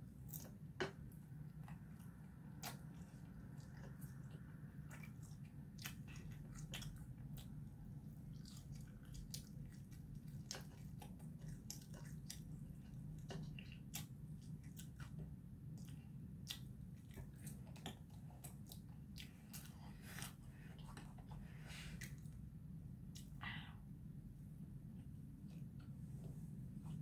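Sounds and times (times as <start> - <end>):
steady low hum: 0.0 - 27.0
person chewing: 0.2 - 22.4.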